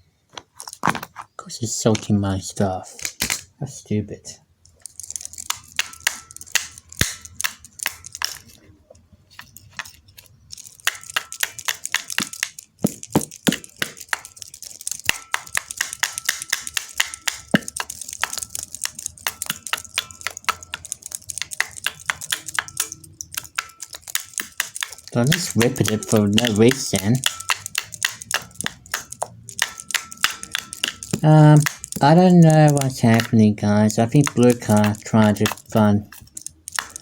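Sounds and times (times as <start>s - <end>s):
small hard objects clicking: 4.7s - 8.6s, 9.3s - 37.0s.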